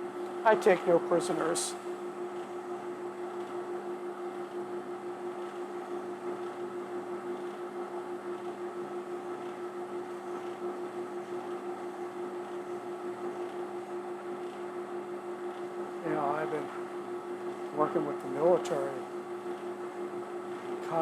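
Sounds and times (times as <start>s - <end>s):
electric workshop machine humming: 0.0s - 21.0s.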